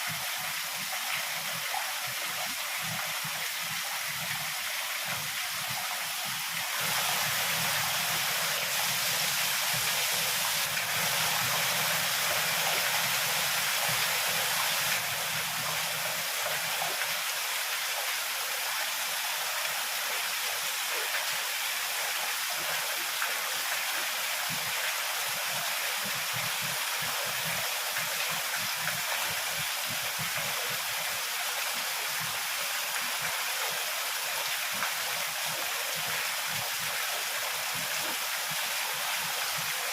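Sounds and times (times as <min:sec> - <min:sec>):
heavy rain falling: 0:02.2 - 0:17.9, 0:21.4 - 0:39.9.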